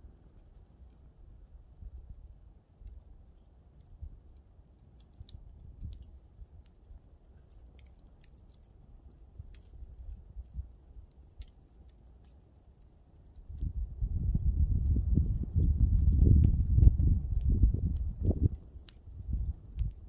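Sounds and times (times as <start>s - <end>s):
campfire crackling and popping: 0.0s - 20.0s
low steady rumble: 0.0s - 20.0s.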